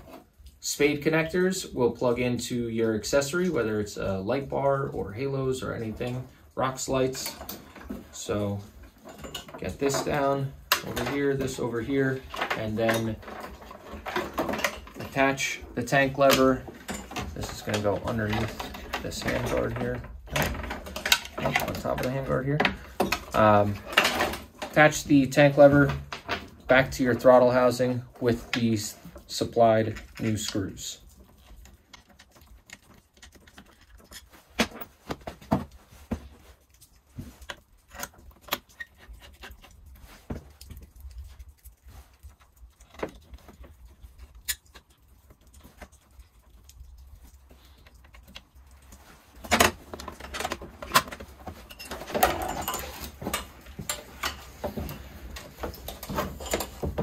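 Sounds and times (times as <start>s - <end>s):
small parts clicking and rattling: 5.6s - 57.0s.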